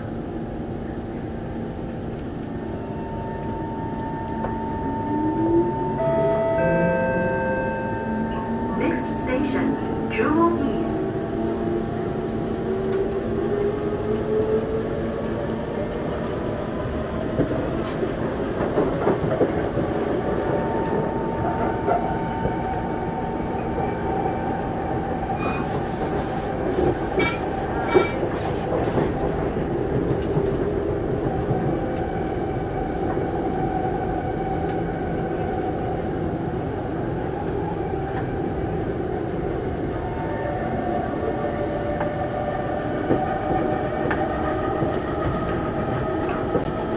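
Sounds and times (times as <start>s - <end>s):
train wheels rumbling on track: 8.1s - 46.9s.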